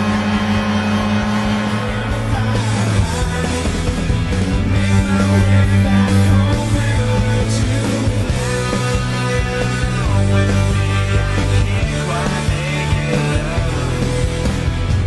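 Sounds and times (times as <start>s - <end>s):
loud rock music with singing: 0.0s - 15.0s.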